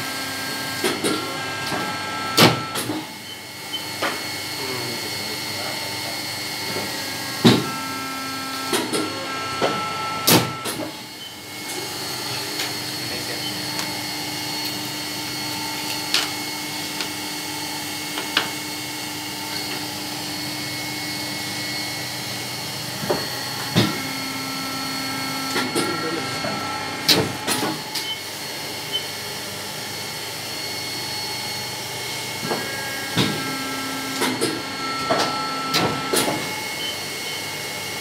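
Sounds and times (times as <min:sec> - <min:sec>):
paper cutter motor hum: 0:00.0 - 0:38.0.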